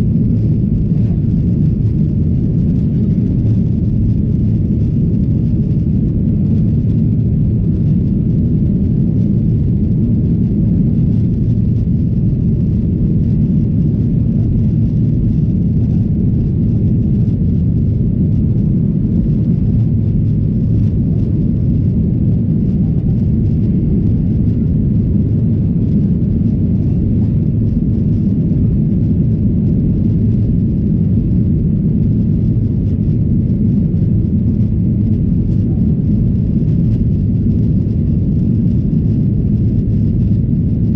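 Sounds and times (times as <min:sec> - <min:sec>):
airliner cabin low rumble: 0:00.0 - 0:40.9.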